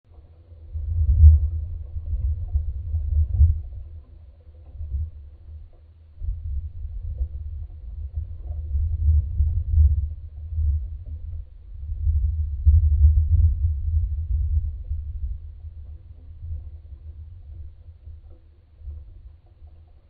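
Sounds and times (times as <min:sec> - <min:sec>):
wind buffeting microphone: 0:00.1 - 0:20.0.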